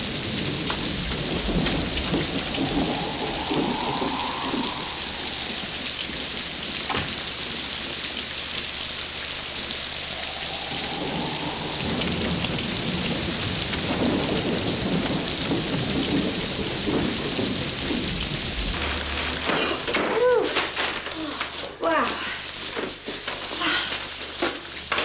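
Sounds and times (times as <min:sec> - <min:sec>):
thunder rumbling: 0:00.0 - 0:21.4
heavy rain: 0:00.0 - 0:25.0.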